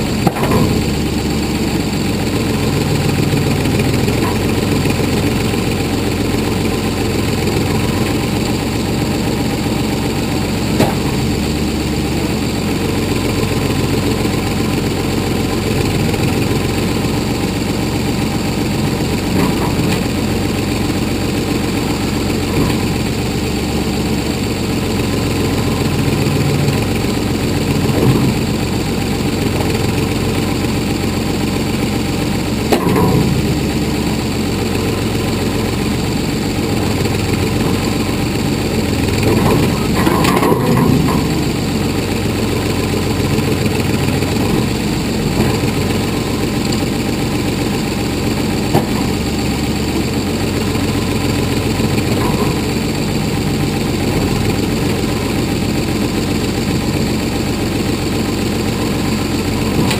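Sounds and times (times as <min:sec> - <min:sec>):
backhoe engine running: 0:00.0 - 0:59.9.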